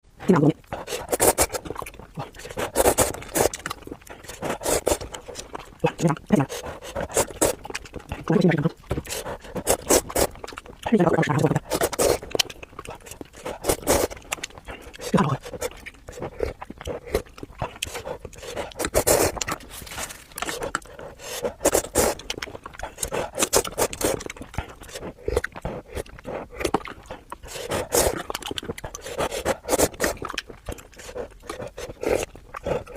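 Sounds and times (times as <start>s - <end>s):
noodle slurping and chewing: 0.6s - 32.9s.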